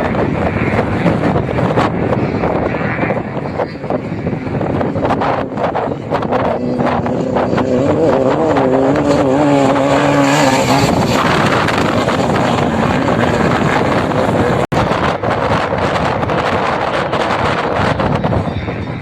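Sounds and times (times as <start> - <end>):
motorcycle engine revving: 0.0 - 18.2
wind noise on microphone: 0.0 - 19.0.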